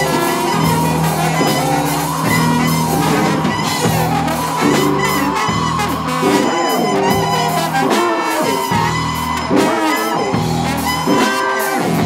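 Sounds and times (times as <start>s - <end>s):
electric guitar noise music: 0.0s - 12.0s
saxophone noise music: 0.0s - 12.0s.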